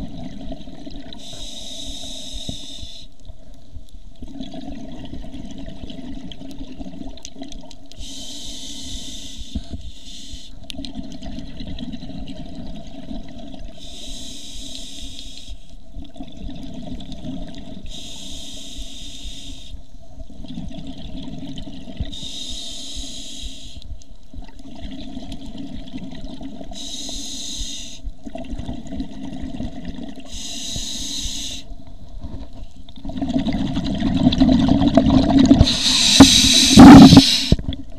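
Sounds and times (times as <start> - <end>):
exhaled bubbles hissing underwater: 0.0 - 3.2, 4.2 - 31.7, 33.0 - 37.8.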